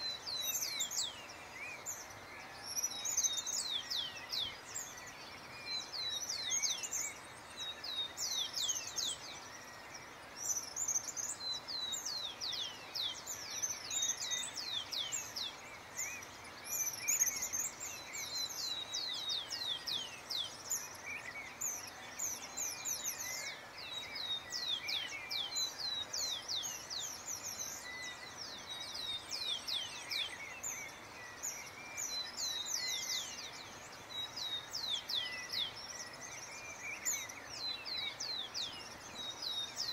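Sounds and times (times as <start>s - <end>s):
small birds singing: 0.0s - 39.9s
steady low hiss: 0.0s - 39.9s.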